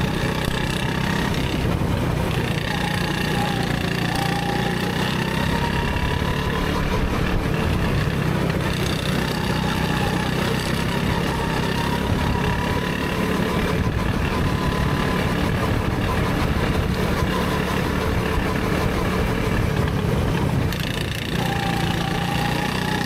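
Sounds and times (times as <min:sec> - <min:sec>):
go-kart engine droning: 0:00.0 - 0:23.0.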